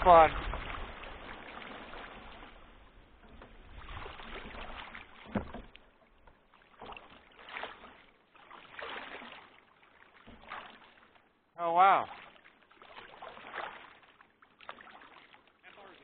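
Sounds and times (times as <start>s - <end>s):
kayak paddle strokes in water: 0.0s - 16.0s.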